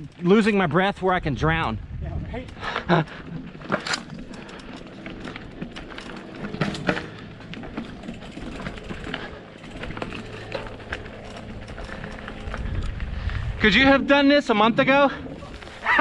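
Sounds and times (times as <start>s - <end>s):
bike tyre and trail noise: 0.0s - 16.0s
bike rattling over ground: 2.3s - 16.0s.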